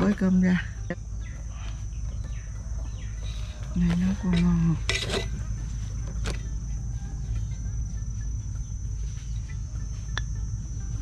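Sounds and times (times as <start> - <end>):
insects whining: 0.0 - 11.0
low background rumble: 0.0 - 11.0.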